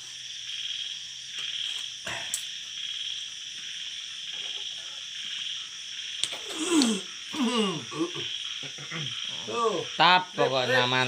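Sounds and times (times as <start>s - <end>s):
frogs and insects trilling: 0.0s - 11.0s.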